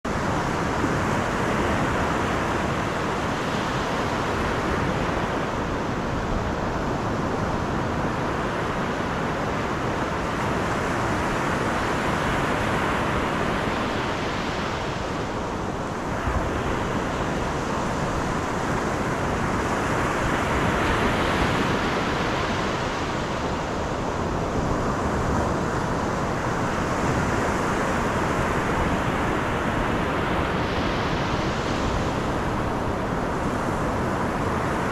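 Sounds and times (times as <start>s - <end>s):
car road and wind noise: 0.0s - 34.9s.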